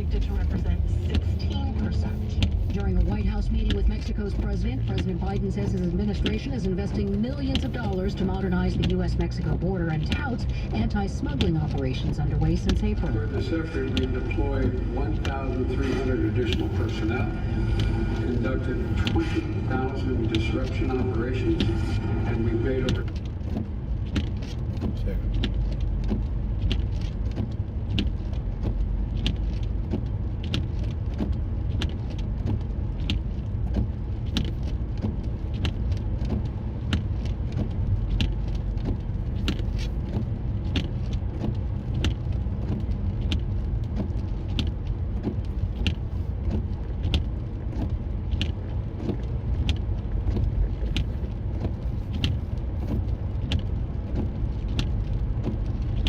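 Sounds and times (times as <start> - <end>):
car engine rumbling: 0.0 - 56.0.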